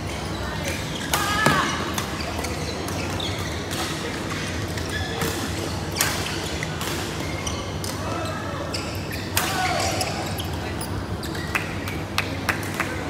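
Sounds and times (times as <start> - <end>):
players' voices: 0.0 - 13.0
shoe squeak on court floor: 0.1 - 11.5.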